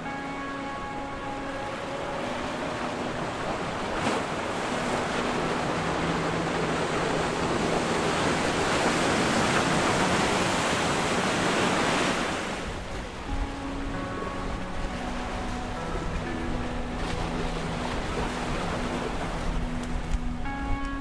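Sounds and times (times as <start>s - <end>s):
water rushing past boat hull: 0.0s - 21.0s.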